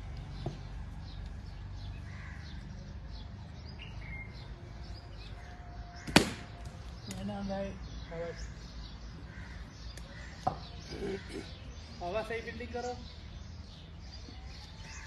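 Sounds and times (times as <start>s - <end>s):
small birds chirping: 0.0s - 15.0s
steady outdoor hum: 0.0s - 15.0s.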